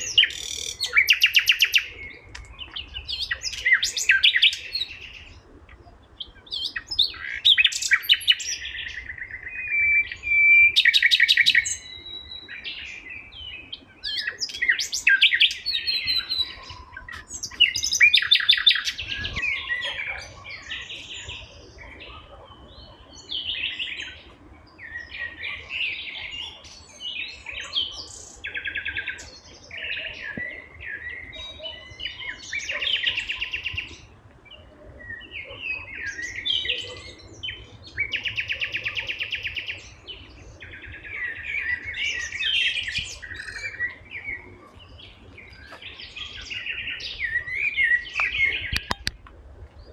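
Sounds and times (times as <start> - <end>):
songbirds singing and chirping: 0.0 - 49.9.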